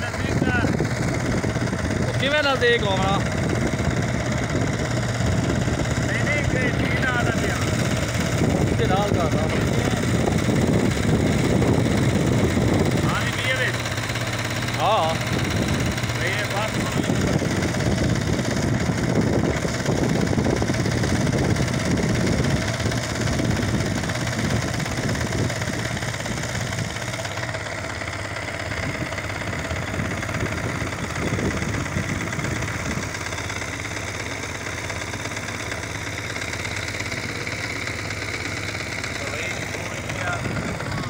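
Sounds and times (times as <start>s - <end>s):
small boat engine running: 0.0s - 41.0s.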